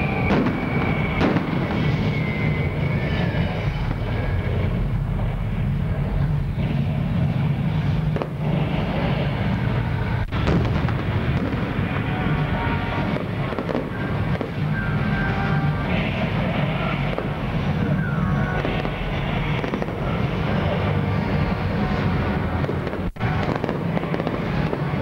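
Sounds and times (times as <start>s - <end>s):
fireworks exploding: 0.0s - 25.0s
low rumble of sound effects: 0.0s - 25.0s.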